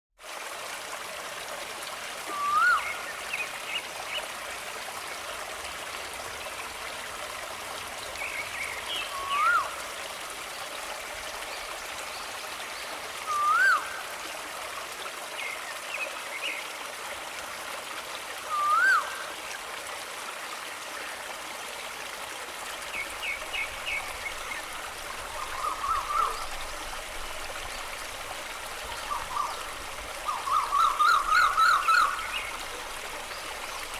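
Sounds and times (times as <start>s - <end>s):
stream trickling: 0.2s - 33.9s.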